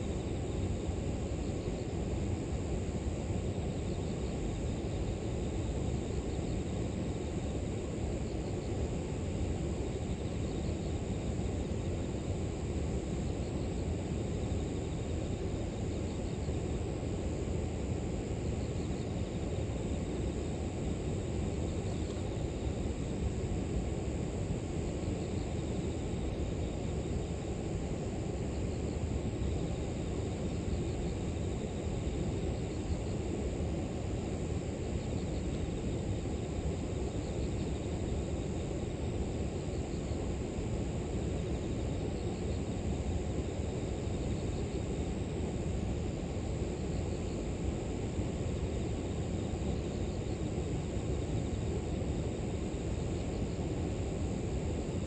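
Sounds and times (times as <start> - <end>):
grass insects chirping: 0.0 - 55.0.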